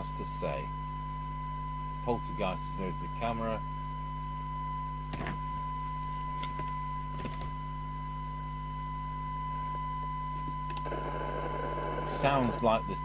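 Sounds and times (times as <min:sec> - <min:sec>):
low mains hum: 0:00.0 - 0:13.0
steady audio test tone: 0:00.0 - 0:13.0.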